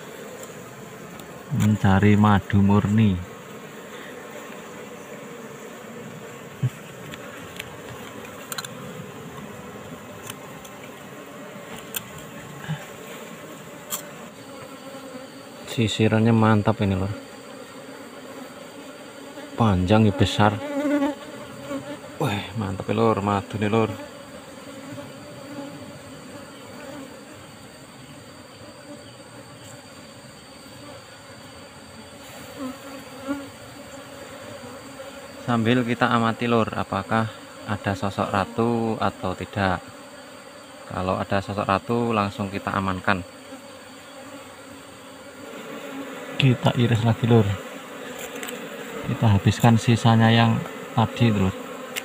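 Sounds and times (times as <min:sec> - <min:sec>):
honeybee colony buzzing: 0:00.0 - 0:52.0.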